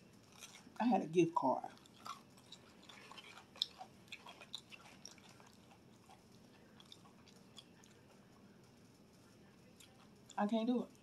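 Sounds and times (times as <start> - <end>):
person chewing food: 0.0 - 0.8, 1.6 - 8.4, 9.7 - 11.0.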